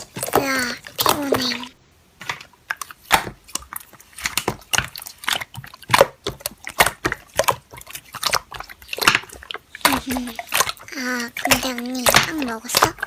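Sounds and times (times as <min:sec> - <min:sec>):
slime squishing and popping: 0:00.0 - 0:13.0.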